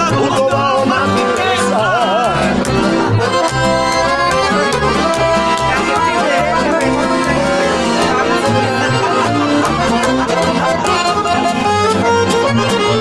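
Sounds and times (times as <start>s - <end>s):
accordion: 0.0s - 13.0s
bass line: 0.0s - 13.0s
guitar: 0.0s - 13.0s
live band playing traditional music: 0.0s - 13.0s.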